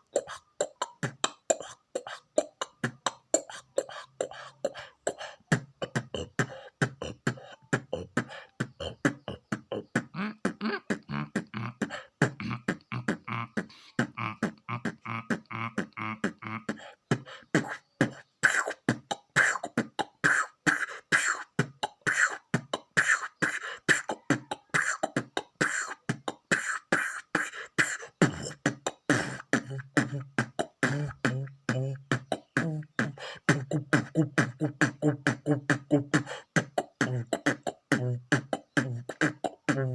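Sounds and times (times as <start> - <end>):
beatboxing drum rhythm: 0.0 - 39.9.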